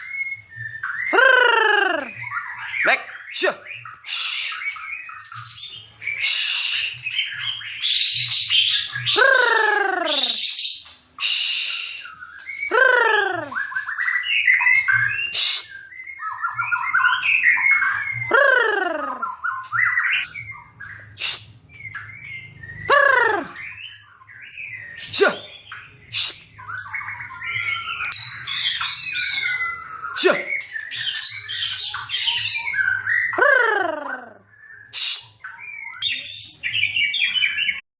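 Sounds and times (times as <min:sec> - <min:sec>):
songbird singing: 0:00.0 - 0:37.8.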